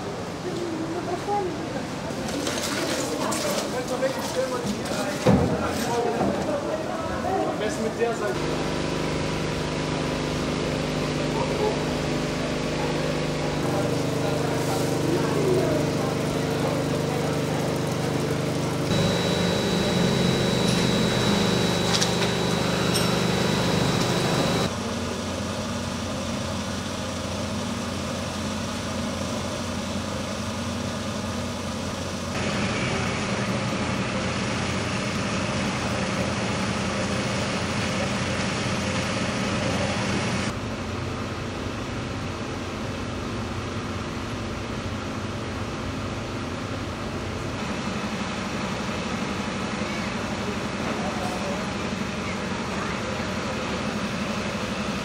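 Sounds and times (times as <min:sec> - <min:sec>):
outdoor background noise: 0:00.0 - 0:55.0
engine-like hum: 0:08.3 - 0:55.0.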